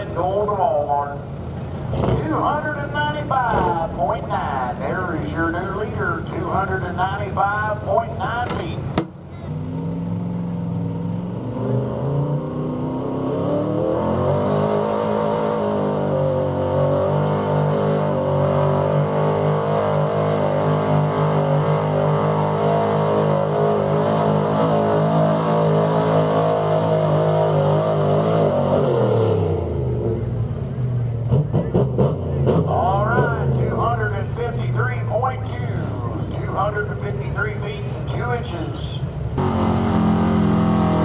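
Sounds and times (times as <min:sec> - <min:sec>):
truck engine at full throttle: 0:00.0 - 0:41.0.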